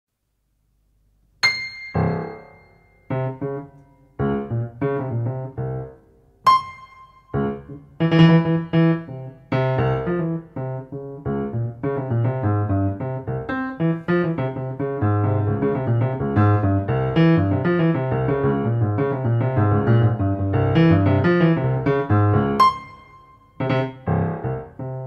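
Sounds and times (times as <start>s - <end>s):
jazz piano: 1.4s - 25.0s.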